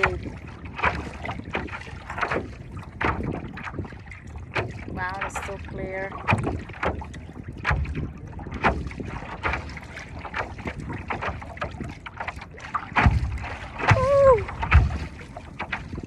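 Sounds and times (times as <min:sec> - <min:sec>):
water splashing against paddleboard: 0:00.0 - 0:16.0
wind buffeting microphone: 0:00.0 - 0:16.0.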